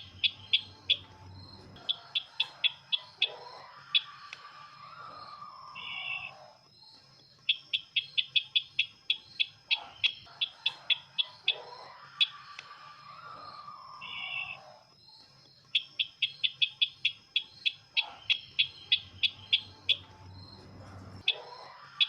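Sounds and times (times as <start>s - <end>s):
buzzy bird trill: 0.0s - 22.0s.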